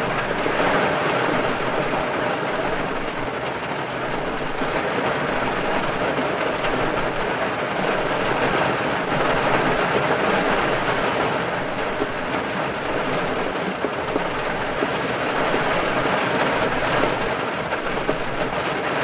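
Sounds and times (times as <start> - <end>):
heavy rain on car roof: 0.1 - 19.0.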